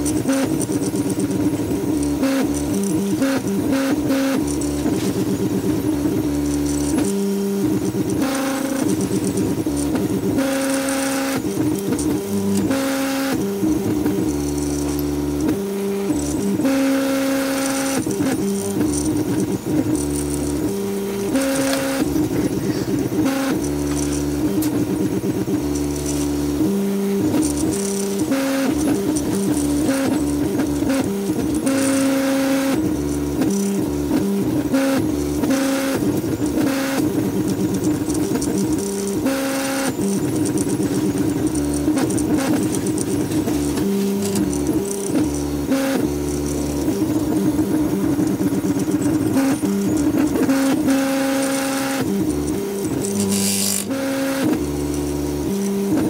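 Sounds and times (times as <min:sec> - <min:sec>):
stepper motors whining: 0:00.0 - 0:56.0.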